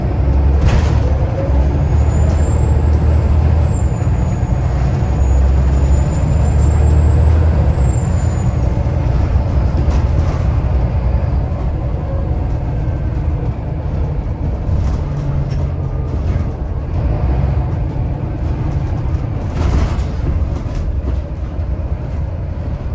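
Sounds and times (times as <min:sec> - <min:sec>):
diesel bus engine drone: 0:00.0 - 0:22.9.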